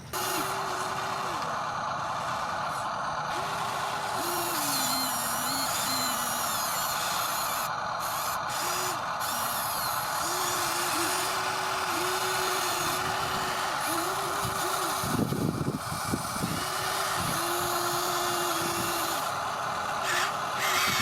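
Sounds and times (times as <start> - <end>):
pitched motor whine: 0.0 - 21.0
small electric motors whirring: 0.0 - 21.0.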